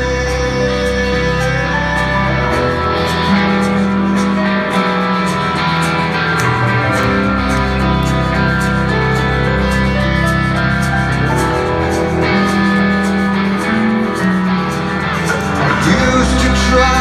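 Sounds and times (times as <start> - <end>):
live rock band over loudspeakers: 0.0 - 17.0.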